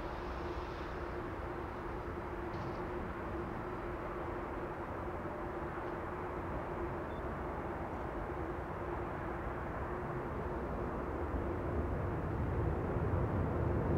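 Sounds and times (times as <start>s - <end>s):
faint steady hum: 0.0s - 13.9s
jet engine rumble: 0.0s - 13.9s.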